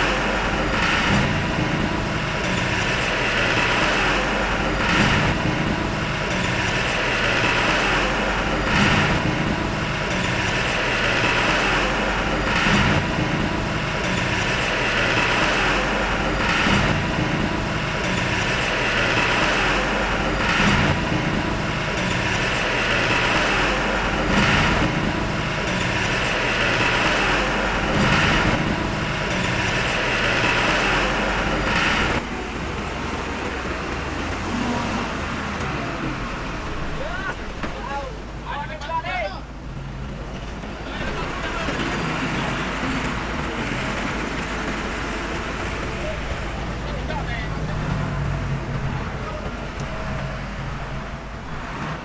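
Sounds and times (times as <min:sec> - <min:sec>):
heavy machinery engine surging: 0:00.0 - 0:52.0.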